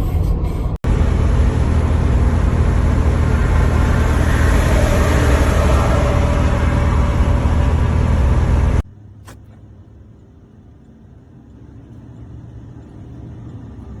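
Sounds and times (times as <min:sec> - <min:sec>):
low hum: 0:00.0 - 0:14.0
road and wind noise: 0:00.0 - 0:14.0.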